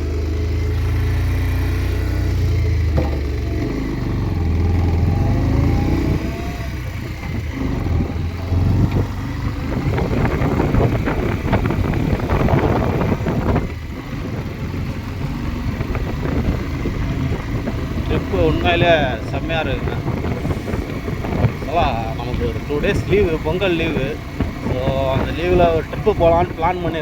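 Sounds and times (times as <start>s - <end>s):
motorcycle engine running: 0.0s - 27.0s
wind rushing on microphone: 4.8s - 27.0s.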